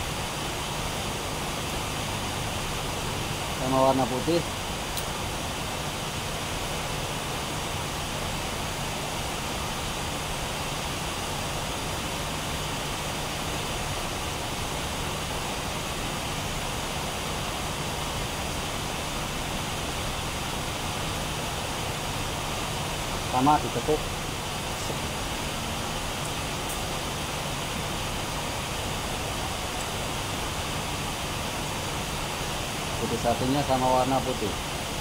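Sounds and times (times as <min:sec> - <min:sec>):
even hiss: 0:00.0 - 0:07.8, 0:08.6 - 0:35.0.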